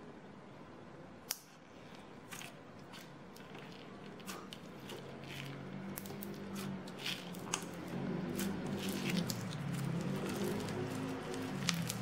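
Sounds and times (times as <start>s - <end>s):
slime squishing: 1.7s - 12.0s.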